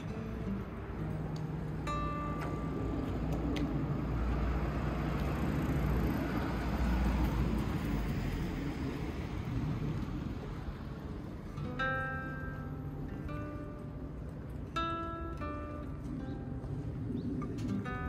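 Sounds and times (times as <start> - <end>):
low rumble of street noise: 0.0 - 18.0.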